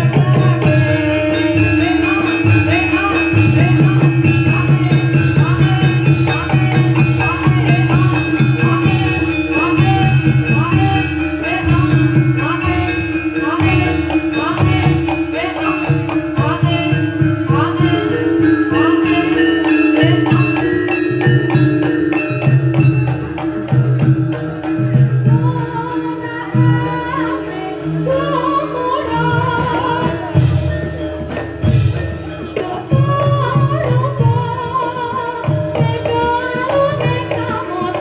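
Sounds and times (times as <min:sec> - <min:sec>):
drums playing busy beat: 0:00.0 - 0:38.0
wavering high melody: 0:00.0 - 0:38.0.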